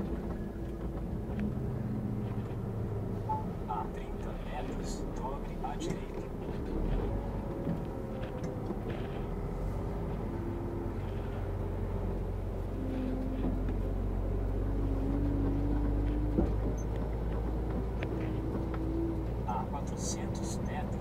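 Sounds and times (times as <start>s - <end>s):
lorry engine droning: 0.0s - 21.0s.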